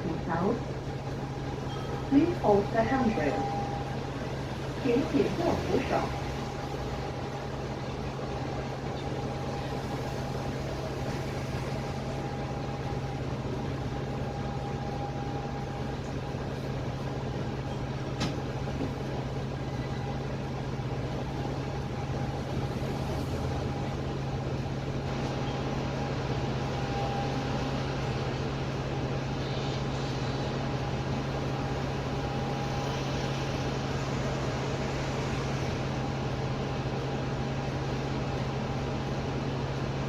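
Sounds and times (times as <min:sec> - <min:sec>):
bus engine hum: 0:00.0 - 0:40.0
thin steady whine: 0:00.0 - 0:40.0.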